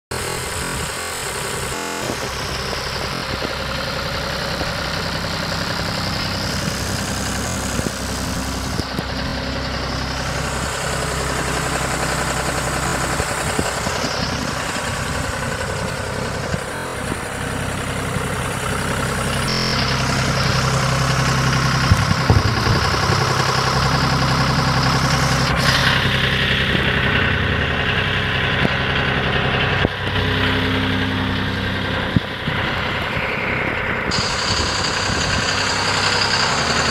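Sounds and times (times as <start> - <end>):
tractor diesel engine idling: 0.1 - 36.9.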